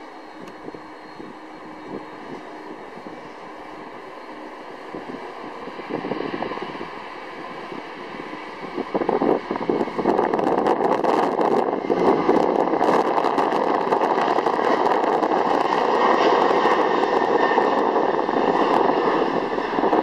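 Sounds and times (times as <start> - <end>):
wind gusting on microphone: 0.0 - 20.0
loud jet roar: 0.4 - 20.0.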